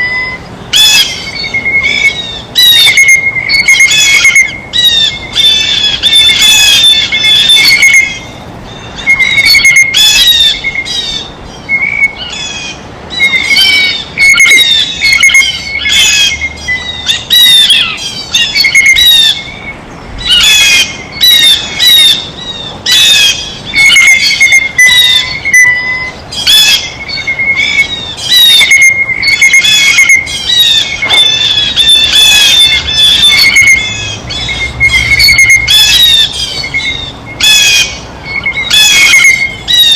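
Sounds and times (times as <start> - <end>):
blue jays calling: 0.0 - 39.9.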